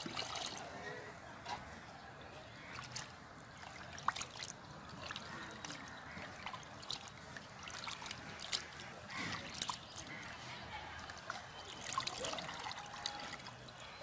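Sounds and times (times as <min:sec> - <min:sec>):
small quick splashes: 0:00.0 - 0:00.7, 0:02.6 - 0:13.8
water sloshing and trickling: 0:00.0 - 0:14.0.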